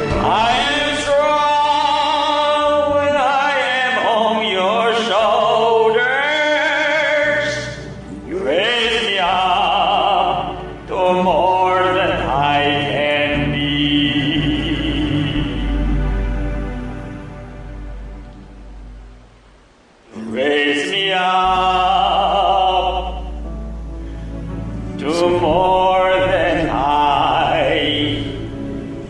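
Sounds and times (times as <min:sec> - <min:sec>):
operatic voice singing: 0:00.0 - 0:16.7, 0:20.1 - 0:23.4, 0:24.9 - 0:29.0.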